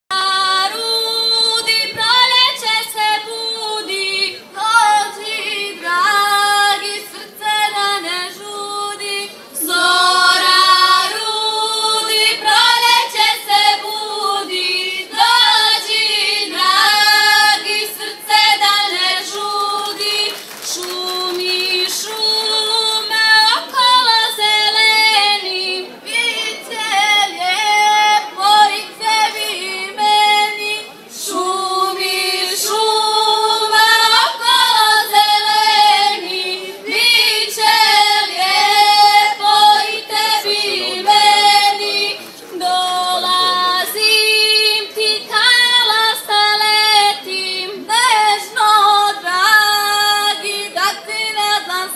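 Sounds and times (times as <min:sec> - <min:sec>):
girls singing together: 0:00.1 - 0:51.9.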